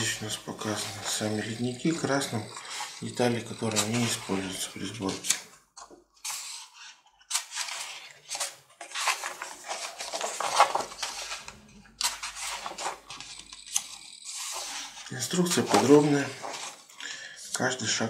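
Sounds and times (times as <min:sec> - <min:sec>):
paper pages turning: 0:00.0 - 0:17.0.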